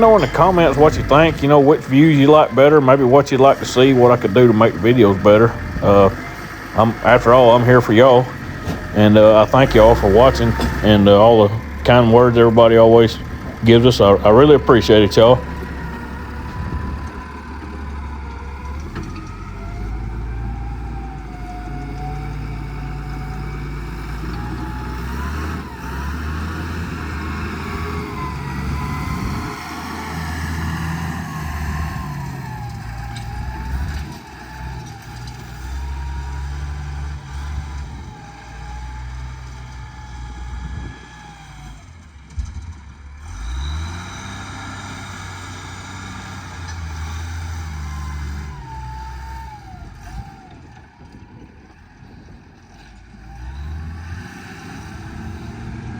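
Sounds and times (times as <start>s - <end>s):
wheel loader diesel engine: 0.0s - 55.9s.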